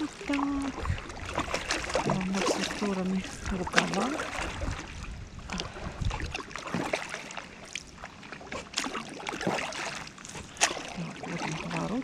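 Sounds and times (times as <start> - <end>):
kayak paddle splashing in water: 0.0 - 12.0.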